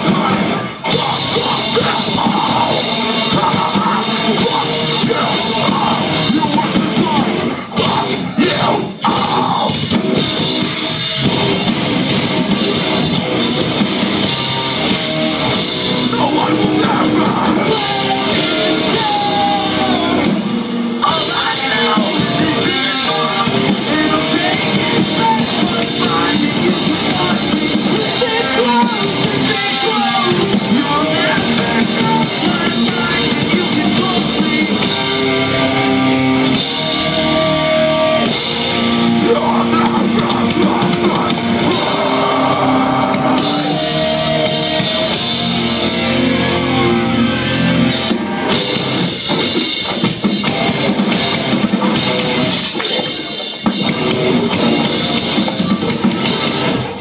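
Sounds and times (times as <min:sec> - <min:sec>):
live metal band playing: 0:00.0 - 0:57.0.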